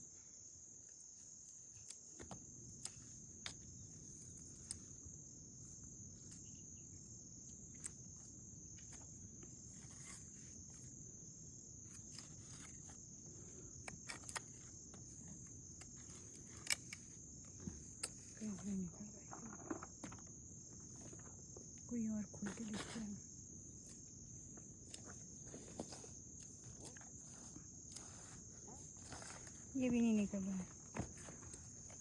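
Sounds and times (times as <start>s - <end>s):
insect trill: 0.0s - 32.0s.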